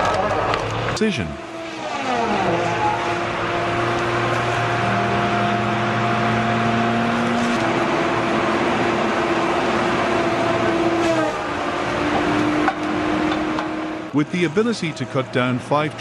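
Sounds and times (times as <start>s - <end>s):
heavy machine engine droning: 0.0s - 16.0s.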